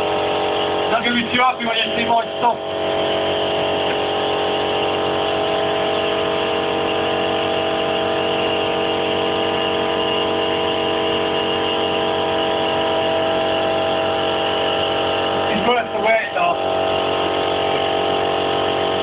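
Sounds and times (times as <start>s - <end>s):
electric air compressor whirring: 0.0s - 19.0s.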